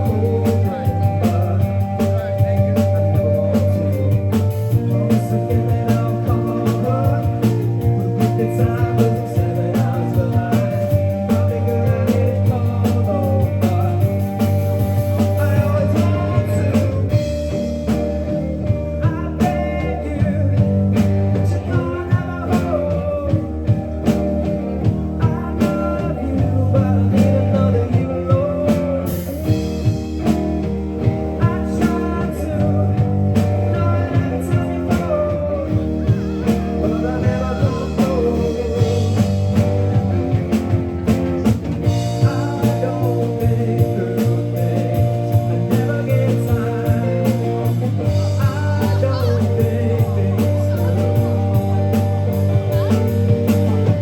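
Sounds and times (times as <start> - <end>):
person singing: 0.0 - 30.3, 31.0 - 54.0
bass guitar: 0.0 - 54.0
drum kit: 0.0 - 54.0
electric guitars: 0.0 - 54.0.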